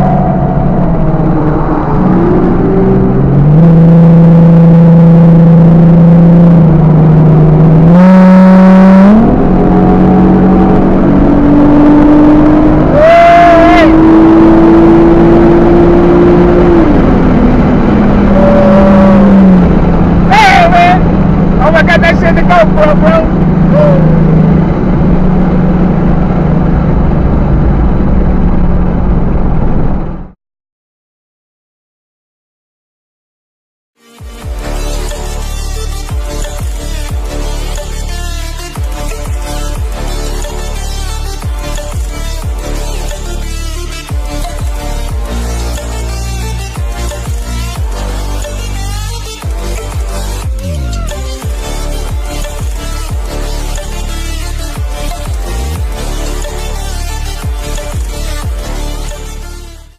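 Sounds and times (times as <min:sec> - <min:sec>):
car engine and exhaust revving: 0:00.0 - 0:30.4, 0:34.2 - 0:59.9
road noise: 0:00.0 - 0:30.4, 0:34.4 - 0:59.9.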